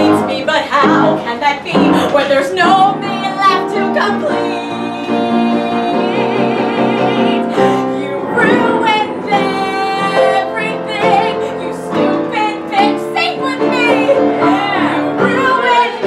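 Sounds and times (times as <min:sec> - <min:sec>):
piano accompaniment: 0:00.0 - 0:16.0.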